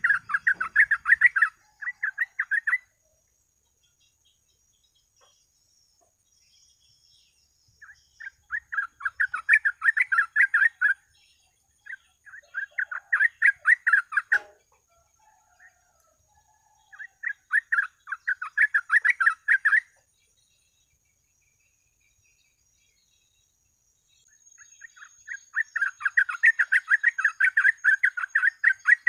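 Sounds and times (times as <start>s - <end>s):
bird chattering song: 0.0s - 29.0s.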